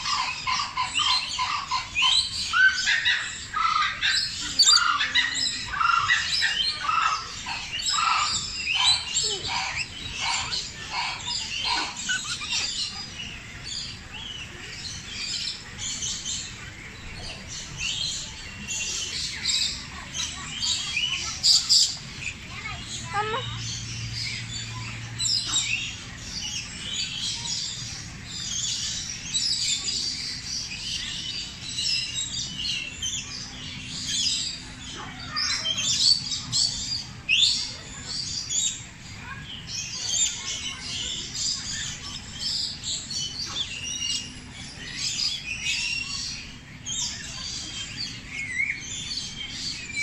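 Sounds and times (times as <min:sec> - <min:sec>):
birds chirping in dense chorus: 0:00.0 - 0:50.0.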